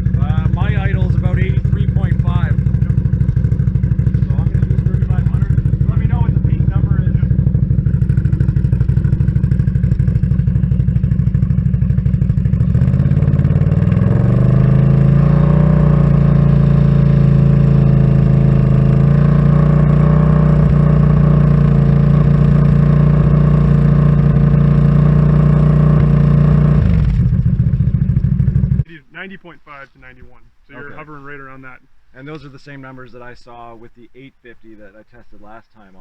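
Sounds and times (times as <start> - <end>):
atv engine idling and revving: 0.0 - 28.9.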